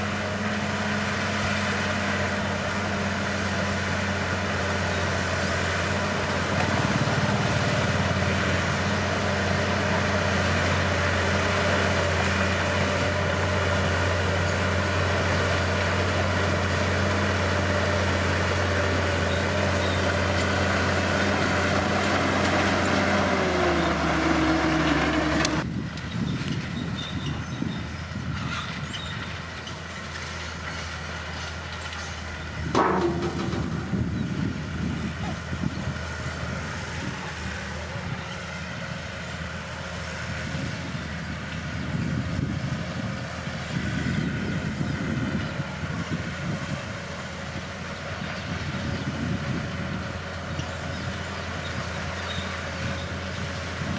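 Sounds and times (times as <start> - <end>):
bulldozer diesel engine: 0.0 - 53.9.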